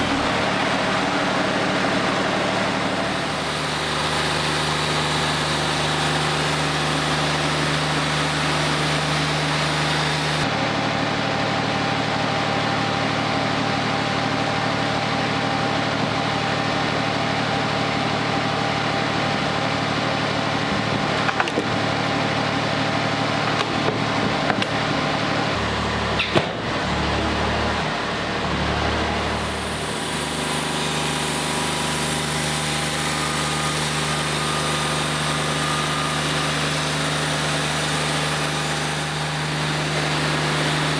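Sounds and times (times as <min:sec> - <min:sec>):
bandsaw mill cutting log: 0:00.0 - 0:11.4, 0:15.3 - 0:40.9.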